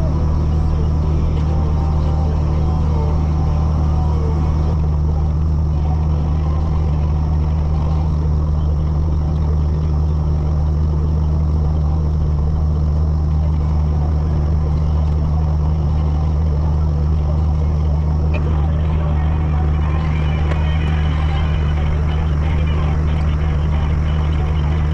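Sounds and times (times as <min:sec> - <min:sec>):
tractor engine droning: 0:00.0 - 0:24.9.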